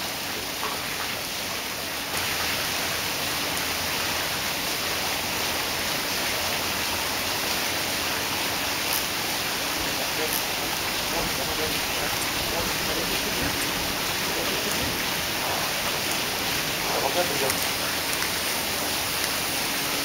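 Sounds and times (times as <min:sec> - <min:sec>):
dry ice fizzing in water: 0:00.0 - 0:20.0.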